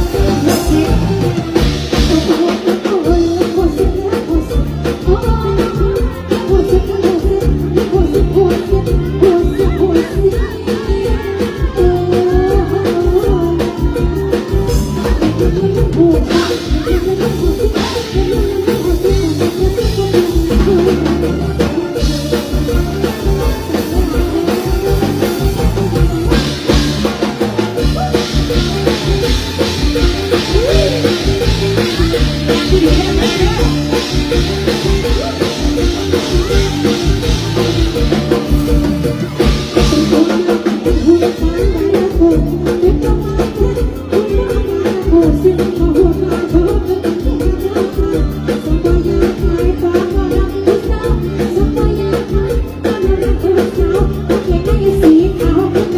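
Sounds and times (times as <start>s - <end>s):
bass: 0.0s - 55.9s
drum kit beat: 0.0s - 55.9s
live band music: 0.0s - 55.9s.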